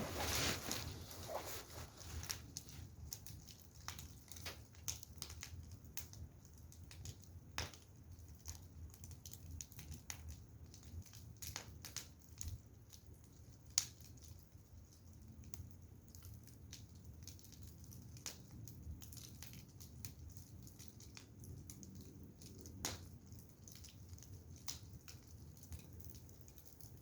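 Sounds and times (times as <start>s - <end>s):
firewood crackling: 0.0s - 27.0s.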